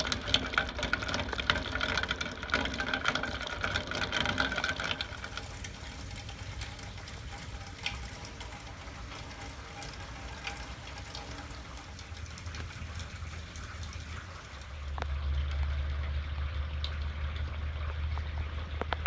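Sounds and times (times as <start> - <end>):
rain falling and dripping: 0.0 - 19.0.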